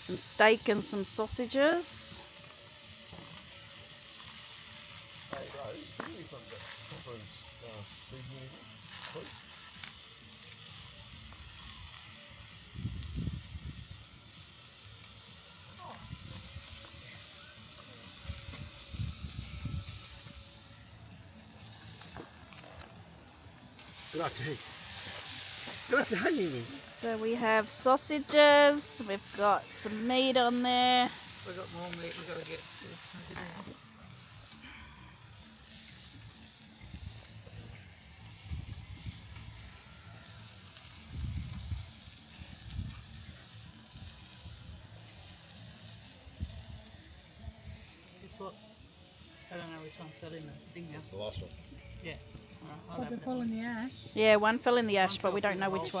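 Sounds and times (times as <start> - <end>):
meat sizzling over a campfire: 0.0 - 56.0.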